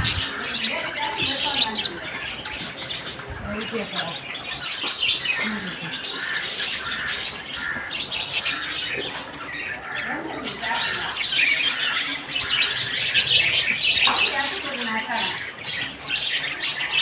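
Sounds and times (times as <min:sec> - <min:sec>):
parrots chattering and squawking: 0:00.0 - 0:17.0.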